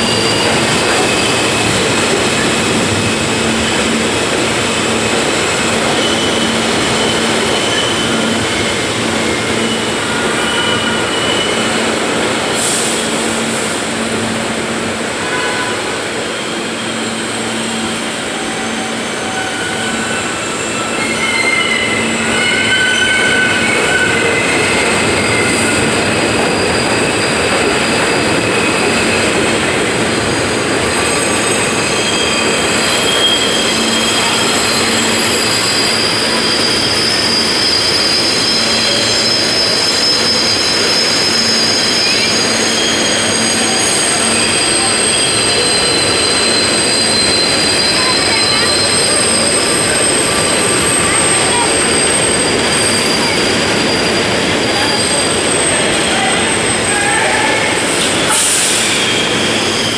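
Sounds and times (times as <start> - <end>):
wheels squealing: 0.0 - 13.4, 16.1 - 59.9
subway train rolling past: 0.0 - 59.9.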